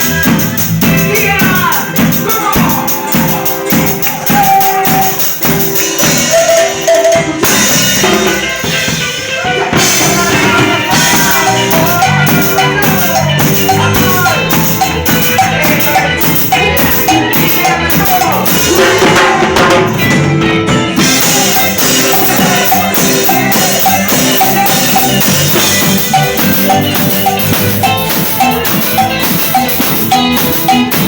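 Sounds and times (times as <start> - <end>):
drum kit beat: 0.0 - 31.0
live cumbia band: 0.0 - 31.0.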